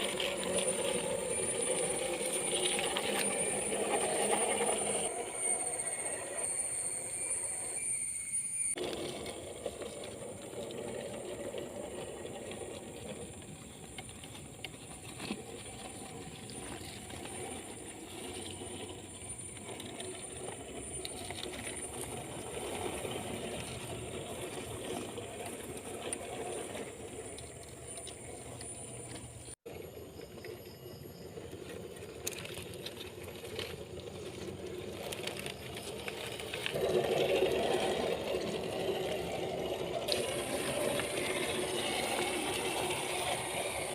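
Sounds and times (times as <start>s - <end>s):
toy car motor whirring and rattling: 0.0s - 29.6s, 31.3s - 43.9s.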